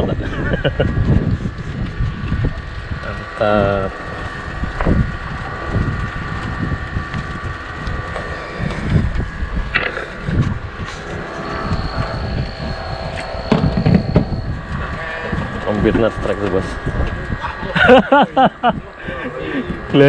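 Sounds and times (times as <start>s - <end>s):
boat engine running: 0.0s - 20.0s
wind buffeting microphone: 0.0s - 20.0s.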